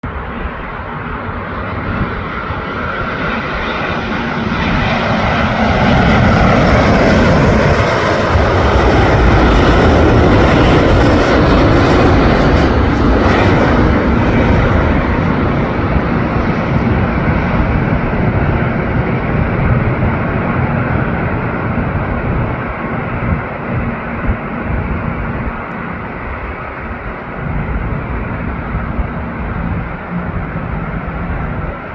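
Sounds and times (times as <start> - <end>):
jet engines of landing airliner: 0.0 - 31.9.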